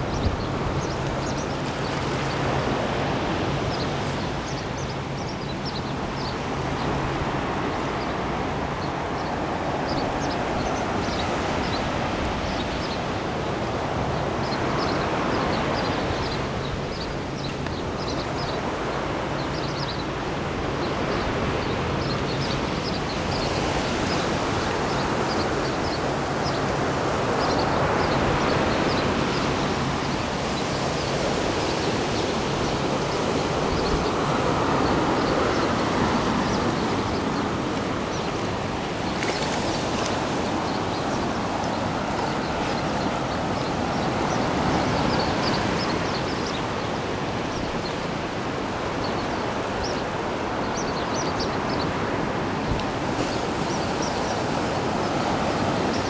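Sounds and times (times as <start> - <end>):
surf washing on a beach: 0.0 - 56.0.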